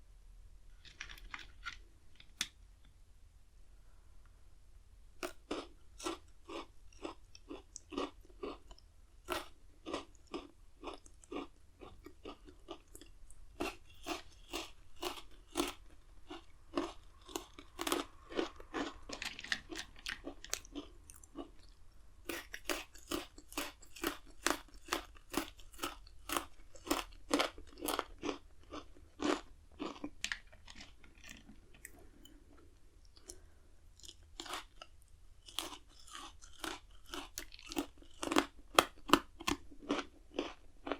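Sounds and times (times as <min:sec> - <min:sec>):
crunching biscuit sticks: 0:00.8 - 0:02.6, 0:05.2 - 0:33.4, 0:34.0 - 0:40.9.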